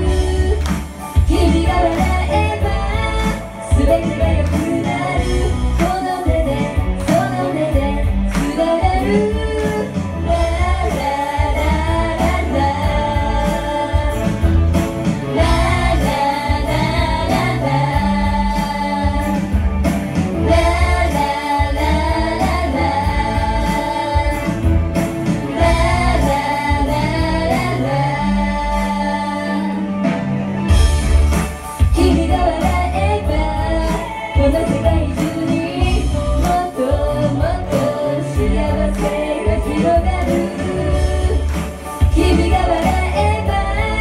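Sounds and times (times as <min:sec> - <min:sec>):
woman singing: 0:00.0 - 0:14.6, 0:15.3 - 0:19.6, 0:20.4 - 0:24.8, 0:25.4 - 0:30.0, 0:31.8 - 0:44.0
pop accompaniment with beat: 0:00.0 - 0:44.0.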